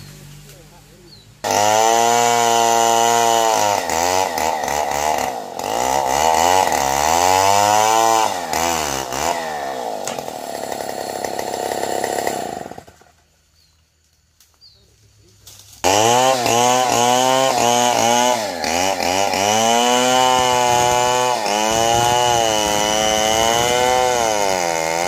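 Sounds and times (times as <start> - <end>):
chainsaw cutting log: 1.4 - 13.3, 15.5 - 25.0.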